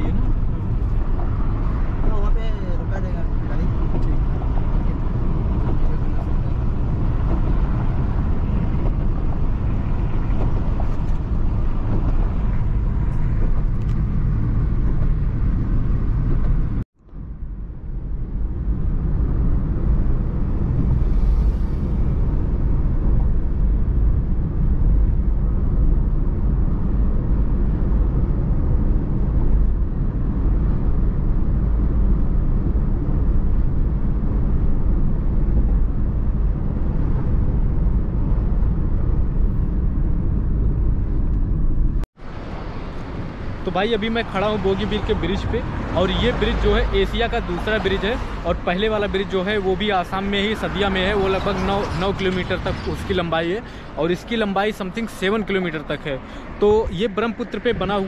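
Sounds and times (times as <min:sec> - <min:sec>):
car tyre and engine rumble: 0:00.0 - 0:58.0.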